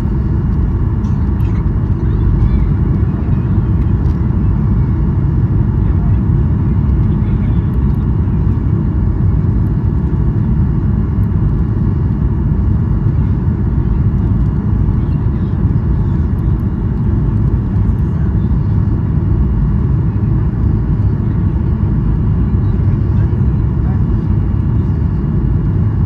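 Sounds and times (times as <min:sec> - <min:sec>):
aircraft cabin rumble: 0:00.0 - 0:26.0
faint steady whine: 0:00.0 - 0:26.0.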